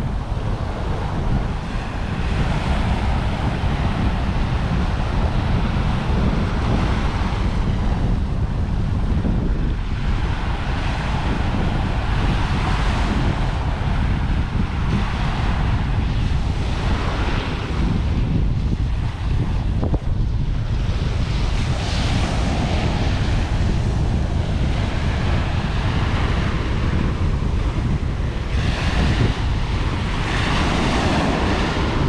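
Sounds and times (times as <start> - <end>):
wind rumble on microphone: 0.0 - 32.0
small waves breaking on beach: 0.1 - 19.6, 20.5 - 32.0.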